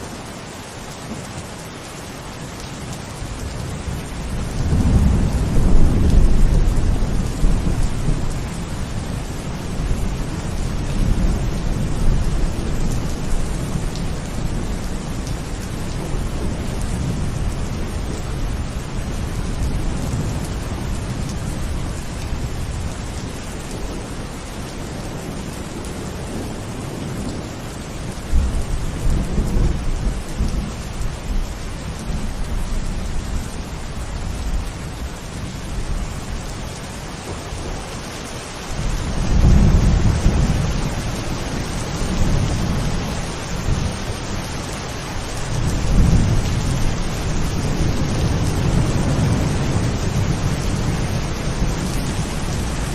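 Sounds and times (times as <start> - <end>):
heavy rain falling: 0.0 - 52.9
low rolling thunder: 3.6 - 23.0, 23.7 - 37.9, 38.6 - 52.9.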